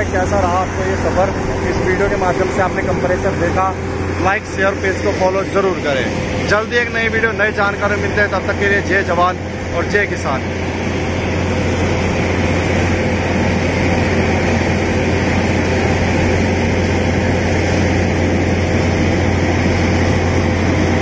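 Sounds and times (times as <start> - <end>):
generator and compressor hum: 0.0 - 21.0
water jet rushing: 0.0 - 21.0.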